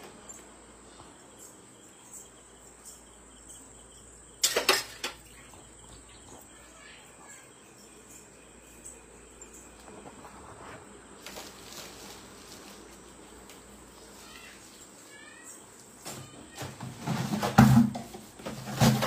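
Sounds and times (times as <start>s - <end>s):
faint high whine: 0.0s - 16.8s.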